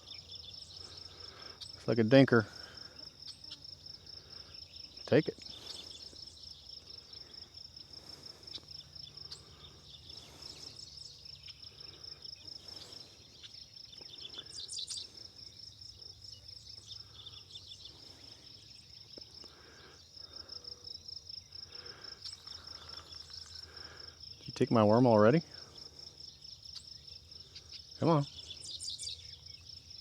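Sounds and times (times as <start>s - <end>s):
insect chirps: 0.0s - 30.0s
insects trilling: 0.0s - 30.0s.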